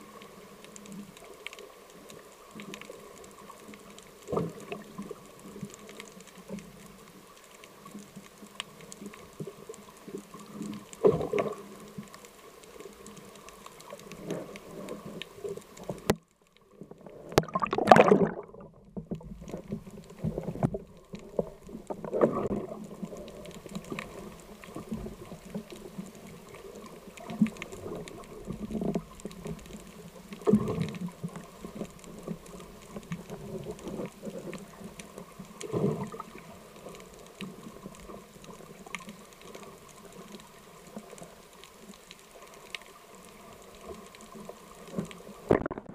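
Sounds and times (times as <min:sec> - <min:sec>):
muffled underwater hiss: 0:00.0 - 0:18.4, 0:19.0 - 0:45.7
faint crackling: 0:00.0 - 0:45.9.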